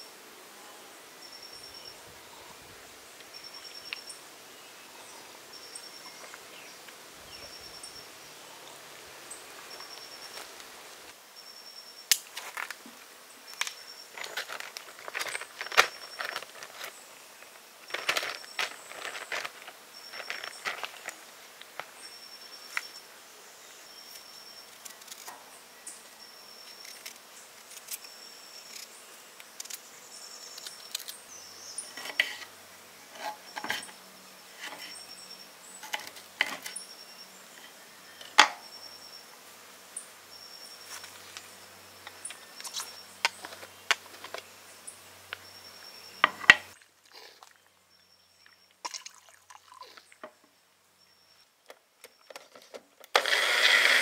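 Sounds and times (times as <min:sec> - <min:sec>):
faint high insect-like chirp: 0:00.0 - 0:54.0.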